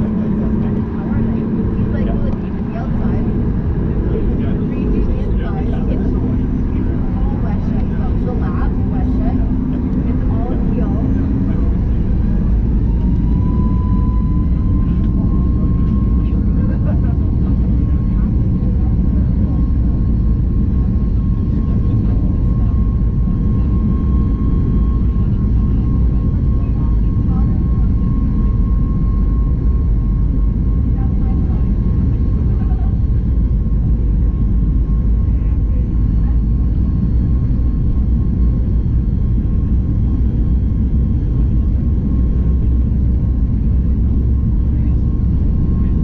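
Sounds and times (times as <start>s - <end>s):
airplane cabin engine rumble: 0.0s - 46.0s
thin steady whine: 0.0s - 46.0s.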